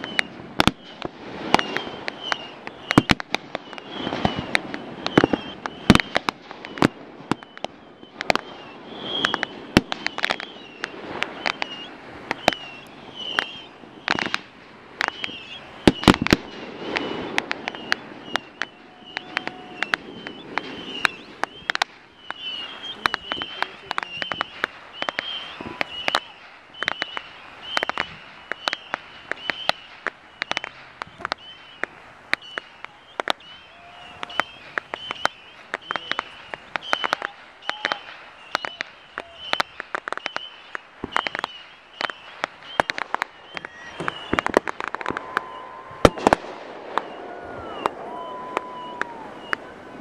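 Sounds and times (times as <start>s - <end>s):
fireworks cracking and popping: 0.0s - 50.0s.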